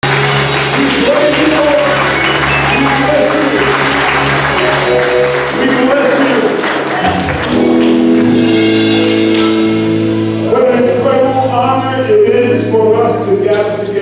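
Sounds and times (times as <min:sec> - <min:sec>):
gospel singing: 0:00.0 - 0:12.1
held organ chord with bass: 0:00.0 - 0:14.0.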